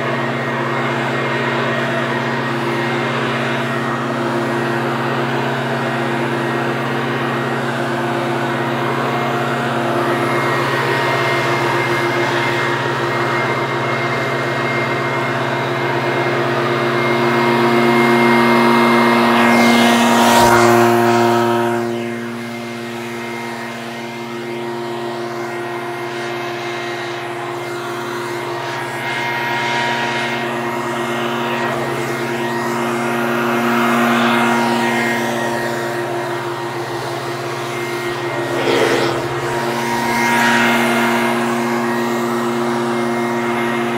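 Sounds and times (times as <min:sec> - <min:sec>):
leaf blower running: 0:00.0 - 0:43.9.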